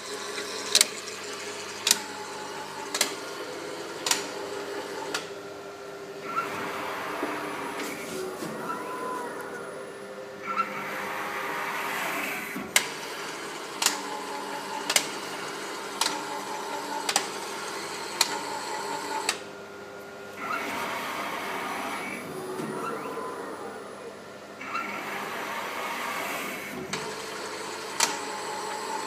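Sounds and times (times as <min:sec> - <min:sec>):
printer feeder mechanical whir: 0:00.0 - 0:29.0.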